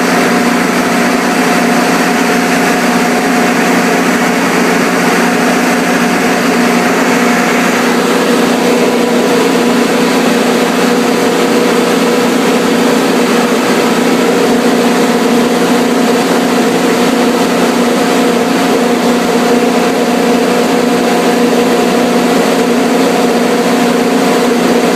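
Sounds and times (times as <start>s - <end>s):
generator engine running: 0.0s - 24.9s.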